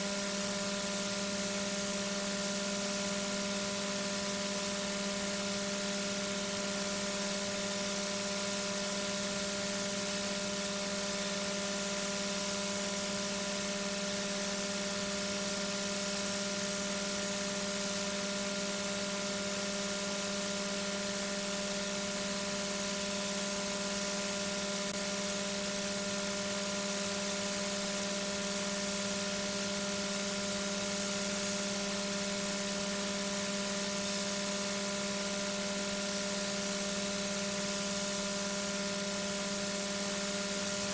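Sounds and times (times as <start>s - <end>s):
electrical hum with fixed tones: 0.0s - 40.9s.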